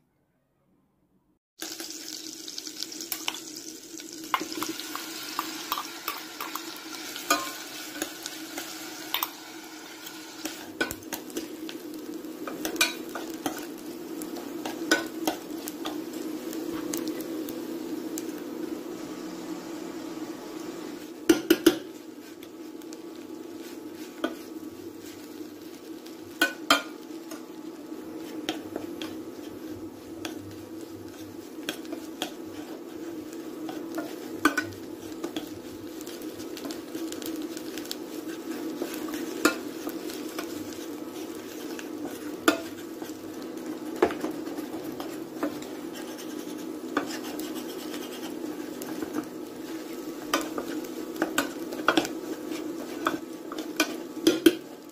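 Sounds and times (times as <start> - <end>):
utensil stirring food in pan: 1.6 - 18.4, 21.0 - 54.9
light sizzle: 1.6 - 54.9.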